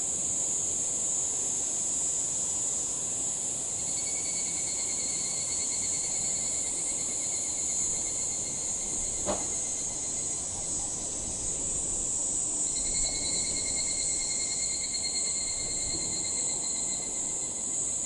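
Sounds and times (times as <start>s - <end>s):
cicada chorus: 0.0s - 18.0s
pulsing insect trill: 0.3s - 18.0s.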